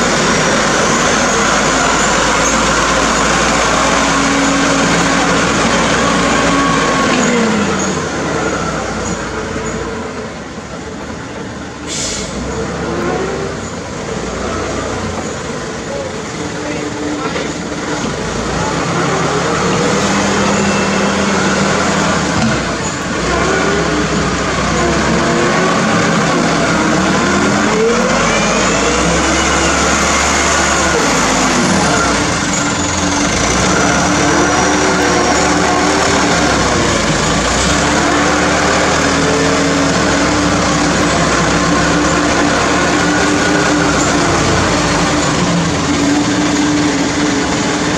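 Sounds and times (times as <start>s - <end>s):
truck engine rumbling: 0.0s - 47.9s.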